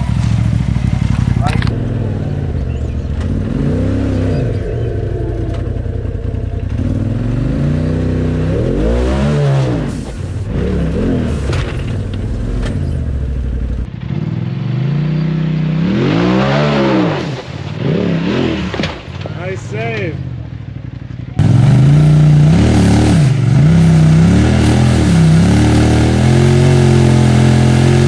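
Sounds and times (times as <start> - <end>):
engine revving: 0.0 - 20.3, 21.4 - 28.0.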